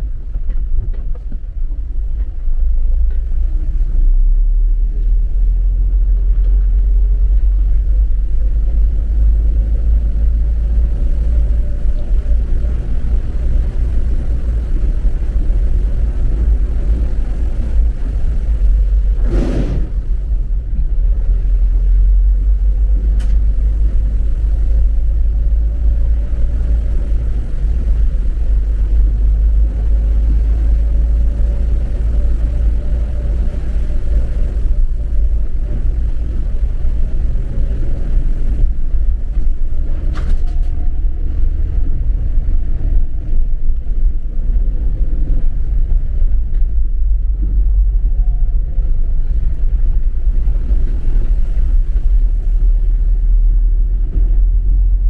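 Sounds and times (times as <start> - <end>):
car driving low rumble: 0.0 - 55.0.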